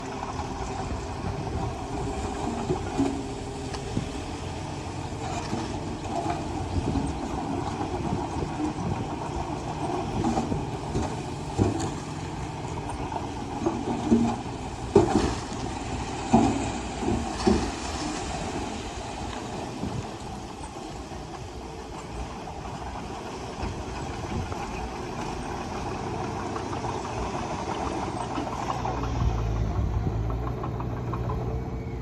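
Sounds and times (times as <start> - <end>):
diesel engine running: 0.0 - 32.0
steel tracks clanking: 0.0 - 32.0.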